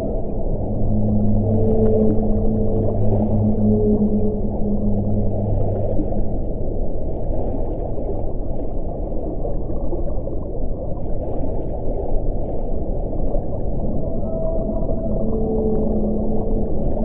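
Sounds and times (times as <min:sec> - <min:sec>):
underwater water wash: 0:00.0 - 0:17.0.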